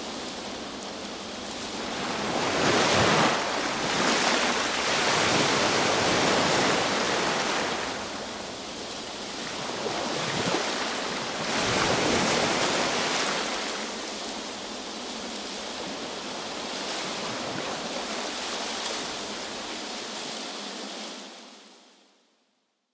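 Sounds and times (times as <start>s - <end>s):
ocean waves breaking: 0.0s - 21.7s.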